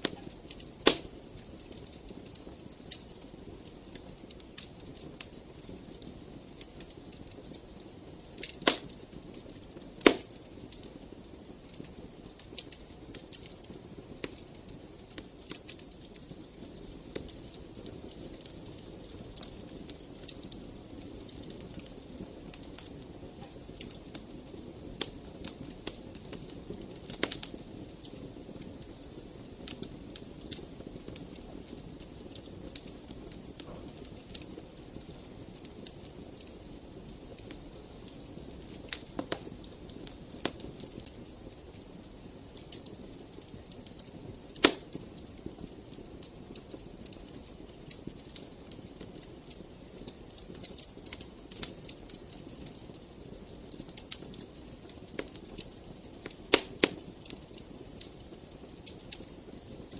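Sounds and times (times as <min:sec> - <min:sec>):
low rush of flames: 0:00.0 - 0:59.9
wood fire crackling: 0:00.0 - 0:59.9.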